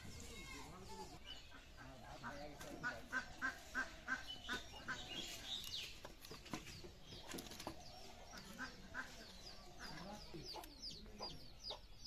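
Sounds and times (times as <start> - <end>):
chickens clucking: 0.0 - 12.0
small birds chirping: 0.0 - 12.0.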